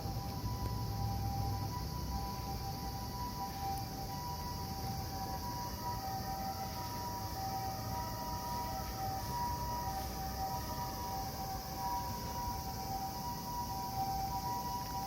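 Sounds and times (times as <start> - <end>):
two-tone siren wail: 0.0 - 15.0.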